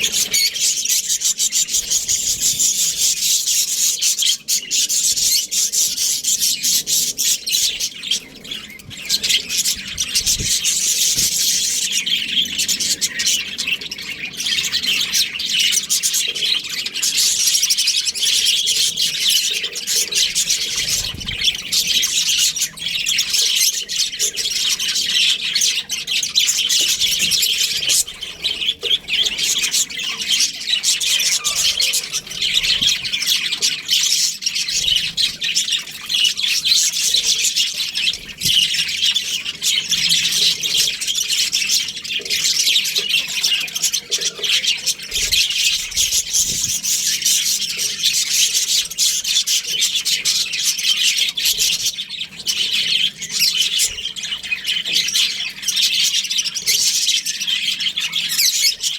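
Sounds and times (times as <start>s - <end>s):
budgerigars chirping: 0.0s - 58.9s.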